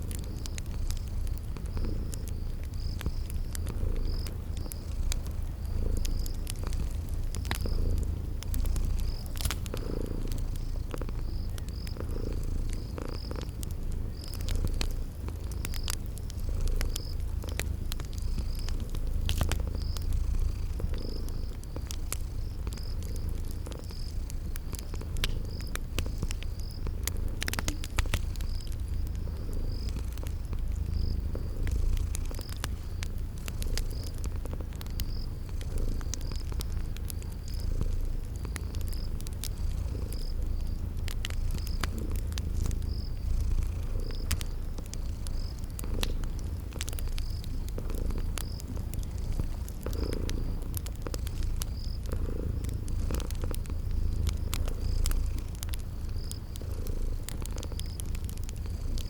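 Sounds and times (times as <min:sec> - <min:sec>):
cat purring: 0:00.0 - 0:59.0
cricket chirping: 0:00.0 - 0:59.0
wood fire crackling and popping: 0:00.0 - 0:59.0.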